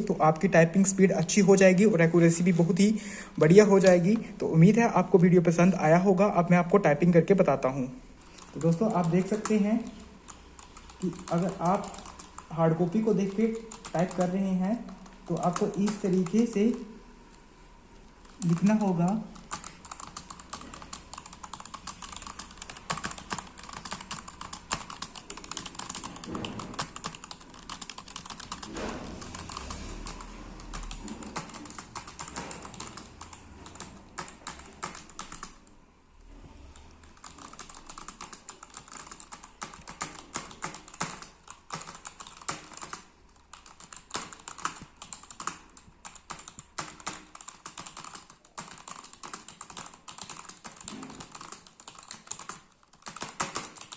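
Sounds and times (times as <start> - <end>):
fast typing on keyboard: 8.2 - 17.0, 18.1 - 35.7, 36.8 - 53.9.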